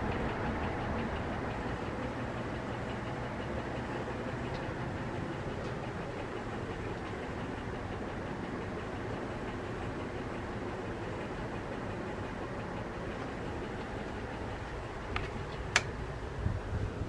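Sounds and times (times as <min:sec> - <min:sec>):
faint fast ticking: 0:00.0 - 0:16.2
ceiling fan air rush and hum: 0:00.0 - 0:17.0.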